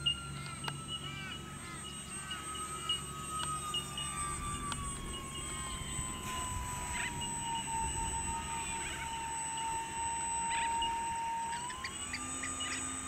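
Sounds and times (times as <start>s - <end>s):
birds chirping: 0.0s - 13.0s
electric motors whining: 0.0s - 13.0s.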